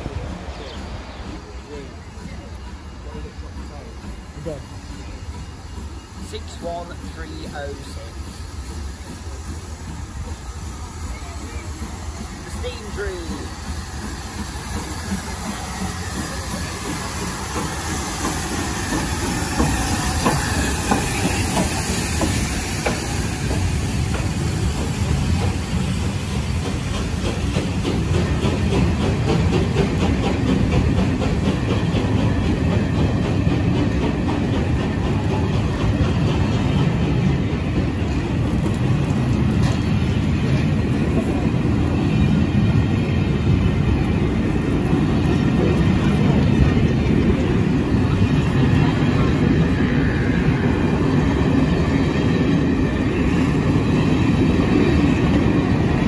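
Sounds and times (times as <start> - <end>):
steam locomotive running: 0.0 - 56.0
steam hissing: 0.1 - 56.0
train wheels clicking over rail joints: 2.3 - 56.0.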